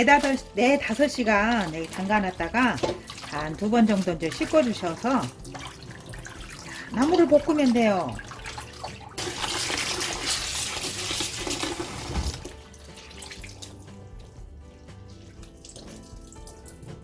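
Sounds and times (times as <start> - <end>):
hands rinsing with splashing: 0.0 - 17.0
kitchen tap running: 0.0 - 17.0
wet squeezing sounds: 0.0 - 17.0.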